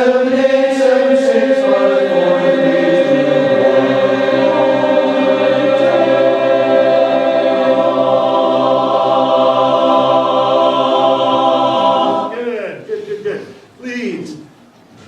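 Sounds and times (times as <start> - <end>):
chorus singing unaccompanied: 0.0 - 12.5.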